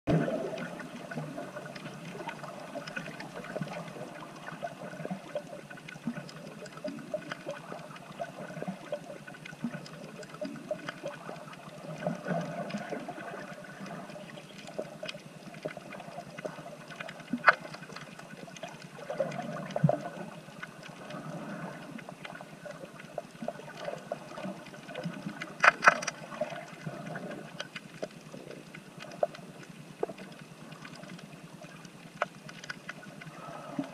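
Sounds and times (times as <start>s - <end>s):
underwater water rushing: 0.1s - 33.9s.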